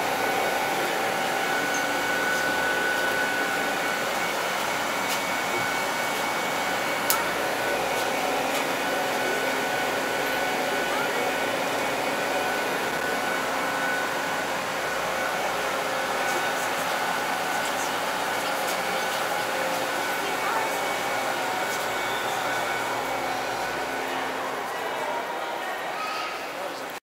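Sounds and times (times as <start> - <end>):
funicular cabin whirring: 0.0 - 25.9.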